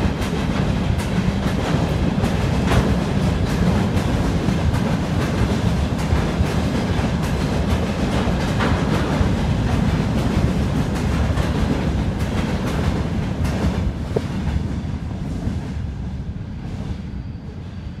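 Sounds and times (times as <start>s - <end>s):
wheels clacking over rail joints: 0.0s - 14.7s
freight train rumbling past: 0.0s - 18.0s.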